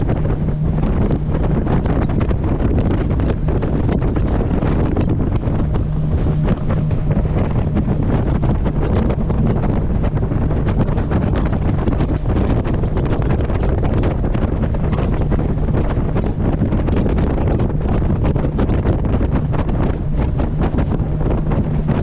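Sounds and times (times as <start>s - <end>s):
boat engine hum: 0.0s - 22.0s
rushing water: 0.0s - 22.0s
wind buffeting microphone: 0.0s - 22.0s.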